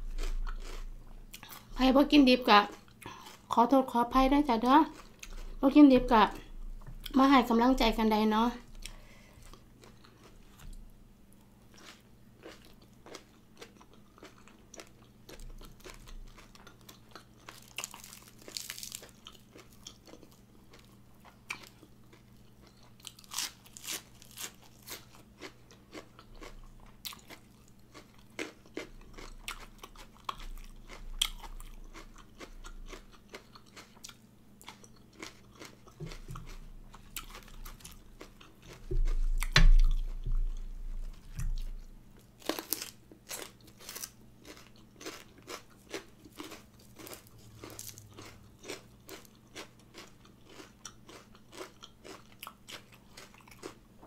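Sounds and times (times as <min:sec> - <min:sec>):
chewing and crunching: 0:00.0 - 0:01.8, 0:04.6 - 0:05.8, 0:08.7 - 0:54.0.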